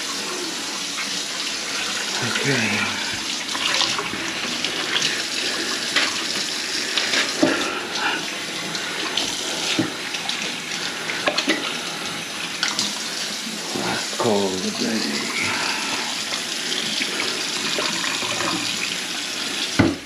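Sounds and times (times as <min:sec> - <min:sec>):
water running from faucet: 0:00.0 - 0:20.0.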